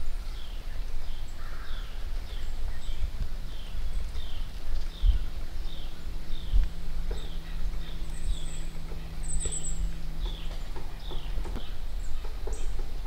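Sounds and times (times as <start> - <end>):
low rumble: 0.0 - 13.0
small bird chirping: 0.0 - 13.0.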